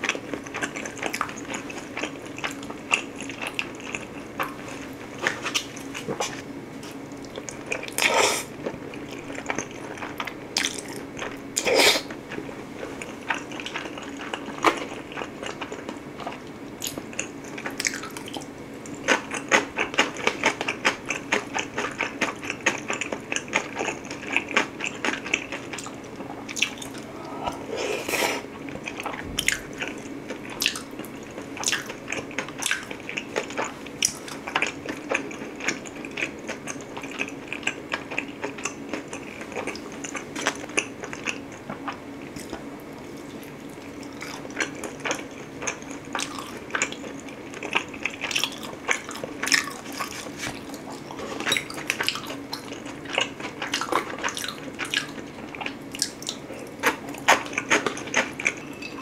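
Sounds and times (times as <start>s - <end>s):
wet chewing and smacking: 0.0s - 11.4s, 12.3s - 27.6s, 28.6s - 59.0s
steady low hum: 0.0s - 59.0s.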